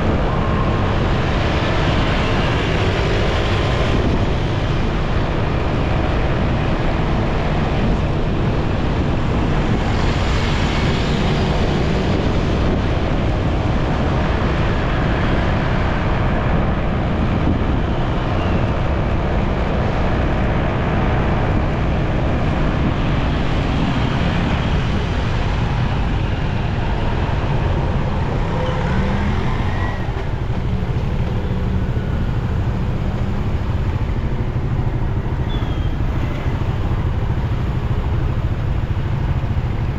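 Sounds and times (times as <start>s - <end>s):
road traffic: 0.0s - 39.9s
wind noise on microphone: 0.0s - 39.9s.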